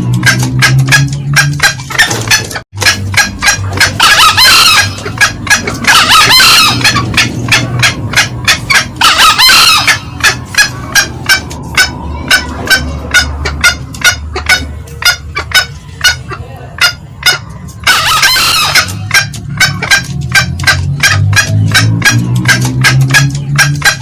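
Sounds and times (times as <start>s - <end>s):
junglefowl clucking: 0.0s - 24.0s
harsh crowing calls: 0.2s - 24.0s.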